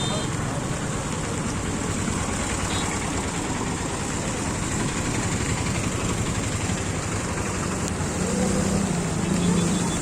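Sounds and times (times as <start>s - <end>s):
floodwater roaring: 0.6s - 10.0s.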